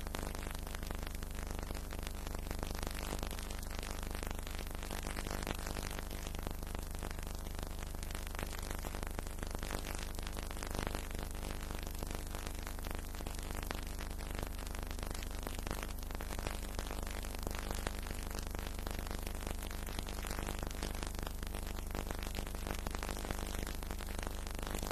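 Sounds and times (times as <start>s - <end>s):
dense crackle: 0.0s - 24.9s.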